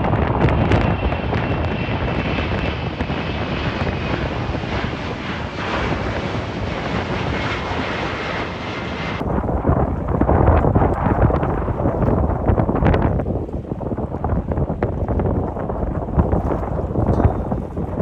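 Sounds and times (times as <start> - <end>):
airliner engines rumbling: 0.0 - 18.0
wind buffeting microphone: 0.0 - 18.0.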